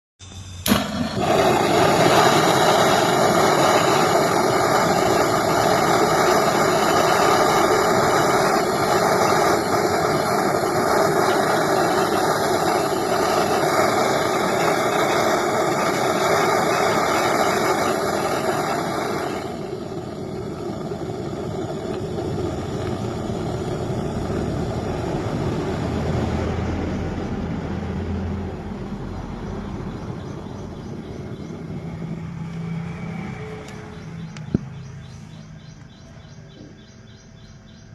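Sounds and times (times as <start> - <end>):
welding torch flame rushing: 0.3 - 34.8.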